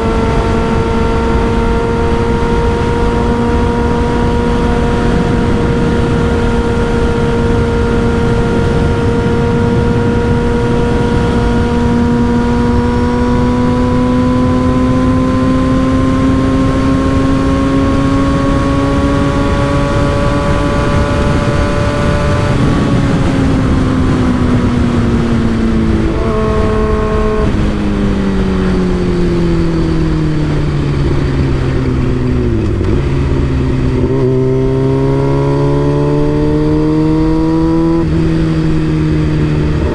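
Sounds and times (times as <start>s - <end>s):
motorcycle engine riding: 0.0s - 39.9s
wind rumble on microphone: 0.0s - 39.9s.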